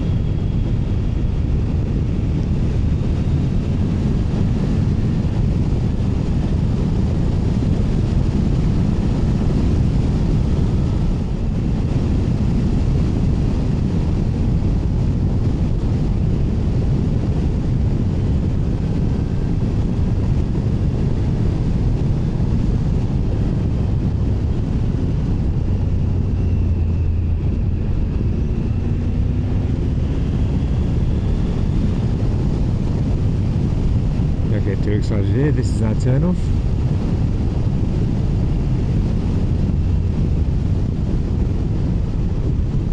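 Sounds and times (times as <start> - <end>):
wind rush on microphone: 0.0 - 42.9.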